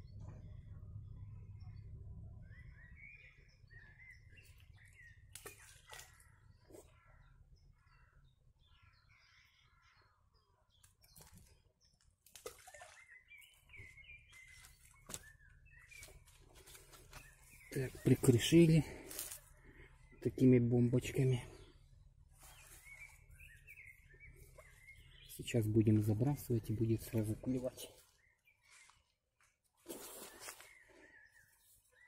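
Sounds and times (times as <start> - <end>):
faint songbird chirping: 0.0 - 32.0.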